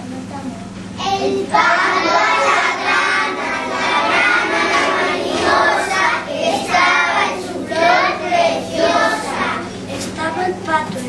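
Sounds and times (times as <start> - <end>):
children chanting: 1.0 - 10.1.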